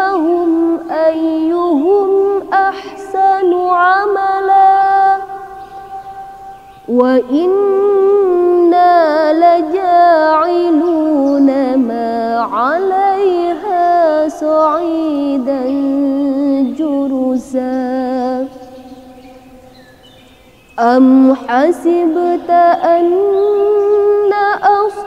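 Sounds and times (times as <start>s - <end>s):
woman chanting melodically: 0.0s - 25.0s.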